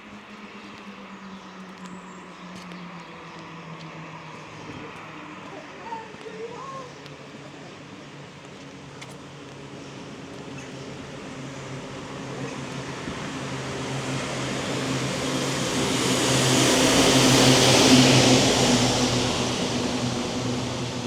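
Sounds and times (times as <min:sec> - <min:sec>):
road vehicle approaching: 0:00.0 - 0:21.0.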